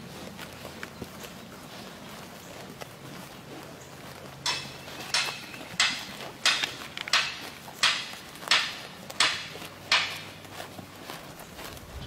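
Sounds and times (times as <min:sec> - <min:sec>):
sheep tearing grass: 0:00.0 - 0:12.0.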